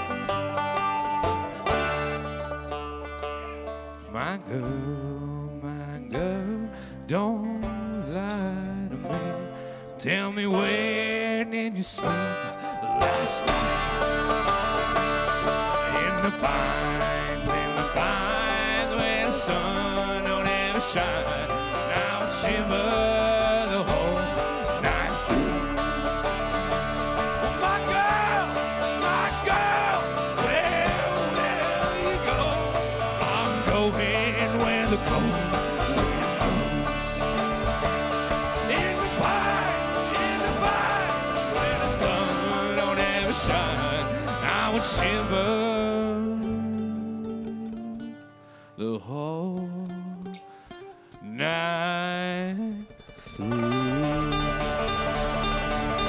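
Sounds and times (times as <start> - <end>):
upright bass: 0.0 - 48.3, 51.2 - 56.0
acoustic guitar picking: 0.0 - 48.6, 49.2 - 56.0
banjo picking: 0.0 - 56.0
mandolin: 0.0 - 56.0
person singing: 4.0 - 26.8, 27.4 - 37.6, 38.6 - 50.5, 51.2 - 54.9.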